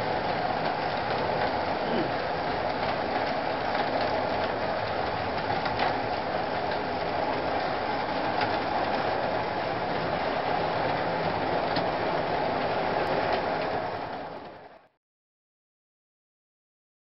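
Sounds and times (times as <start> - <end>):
wheels clicking over rail joints: 0.2 - 14.6.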